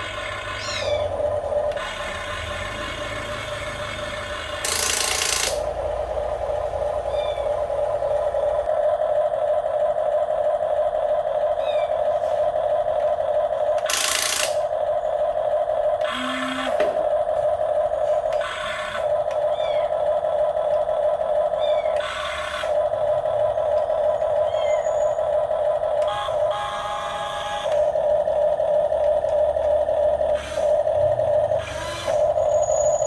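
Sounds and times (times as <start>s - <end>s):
electric motor whine: 0.0s - 10.1s, 11.6s - 33.0s.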